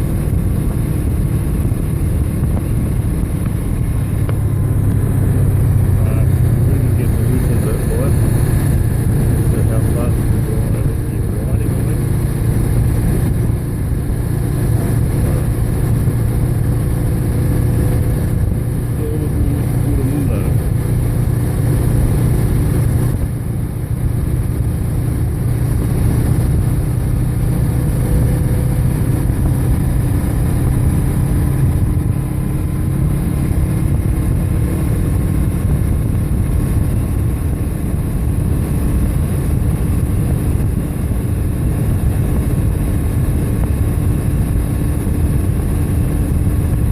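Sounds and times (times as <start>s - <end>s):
heavy wind noise: 0.0s - 46.9s
motorcycle engine cruising: 0.0s - 46.9s
road noise: 0.0s - 46.9s.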